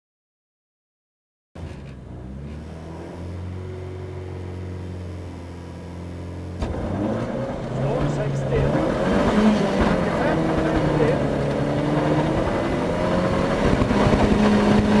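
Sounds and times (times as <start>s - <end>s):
car engine revving: 1.6s - 15.0s.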